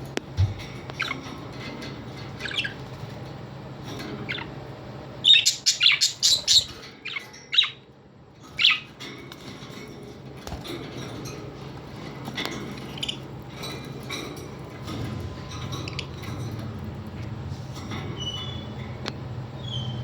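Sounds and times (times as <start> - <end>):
parrots chirping and squawking: 0.0 - 20.0.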